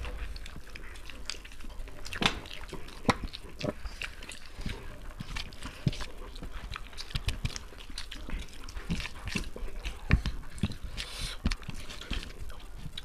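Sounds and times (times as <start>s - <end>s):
people chewing and lip-smacking: 0.0s - 13.0s.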